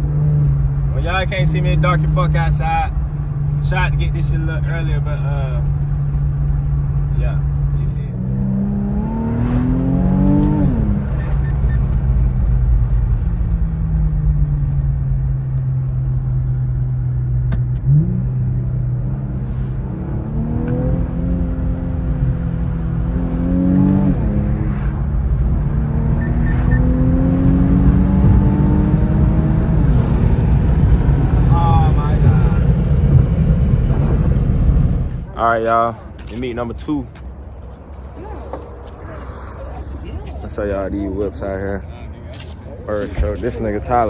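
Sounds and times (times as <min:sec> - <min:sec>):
car engine accelerating: 0:00.0 - 0:37.5.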